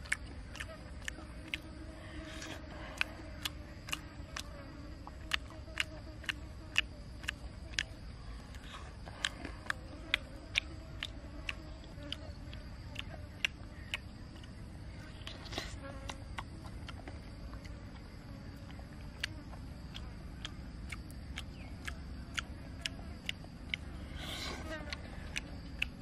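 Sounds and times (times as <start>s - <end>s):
person chewing and lip-smacking: 0.0s - 26.0s.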